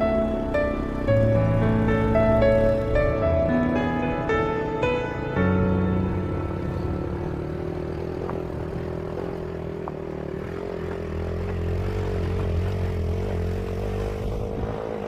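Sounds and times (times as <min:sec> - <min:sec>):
motorcycle engine running: 0:00.0 - 0:04.0, 0:04.6 - 0:15.0.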